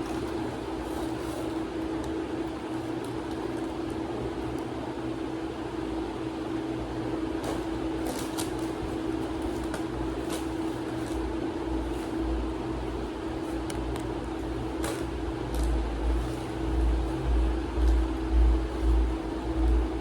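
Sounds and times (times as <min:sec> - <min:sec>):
noisy whir: 0:00.0 - 0:20.0
steady machine hum: 0:00.0 - 0:20.0.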